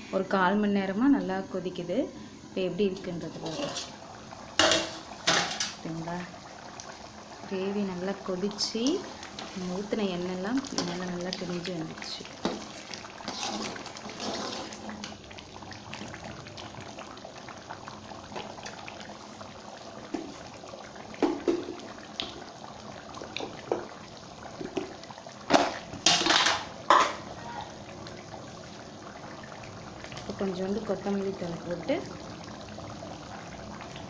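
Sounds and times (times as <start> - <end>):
gravy bubbling in a pan: 0.6 - 34.0.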